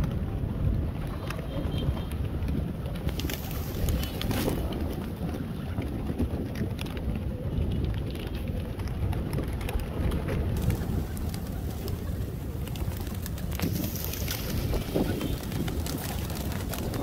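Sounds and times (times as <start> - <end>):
pigeon wings flapping: 0.0 - 17.0
wind on microphone: 0.0 - 17.0.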